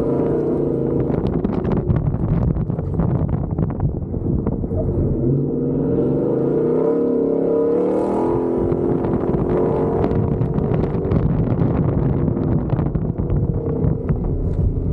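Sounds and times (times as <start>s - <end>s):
truck engine at high revs: 0.0s - 14.9s
truck rumbling over rough ground: 0.0s - 14.9s.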